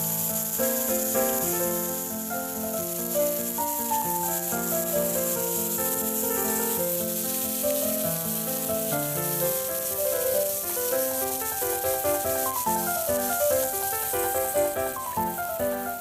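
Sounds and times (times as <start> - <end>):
food frying in oil: 0.0 - 16.0
instrumental music with held notes: 0.0 - 16.0.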